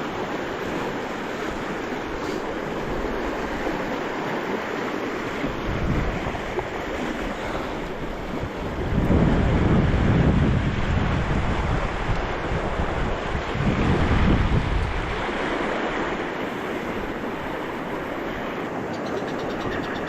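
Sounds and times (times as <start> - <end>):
stream water flowing: 0.0 - 10.1, 10.7 - 20.0
wind buffeting microphone: 0.0 - 20.0.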